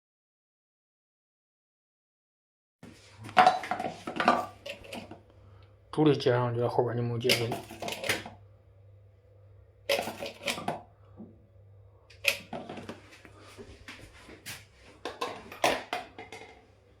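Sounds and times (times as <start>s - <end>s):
faint steady hum: 2.8s - 17.0s.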